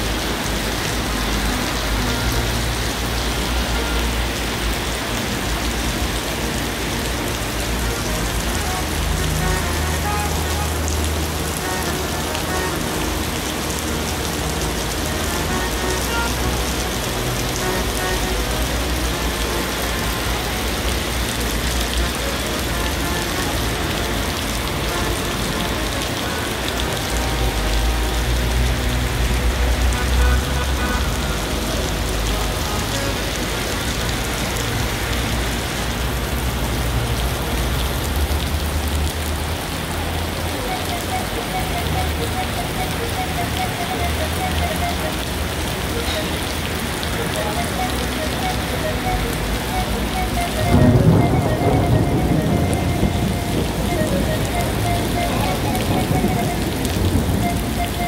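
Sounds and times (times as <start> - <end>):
heavy rain on pavement: 0.0 - 58.0
traffic rumble on wet road: 0.0 - 58.0.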